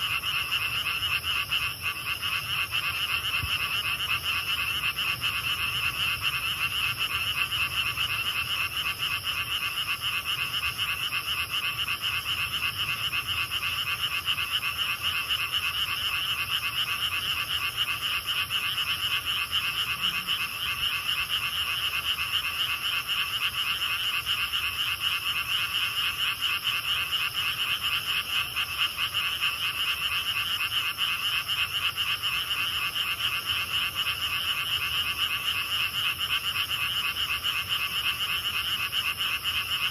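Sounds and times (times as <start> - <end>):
frogs calling in chorus: 0.0 - 39.9.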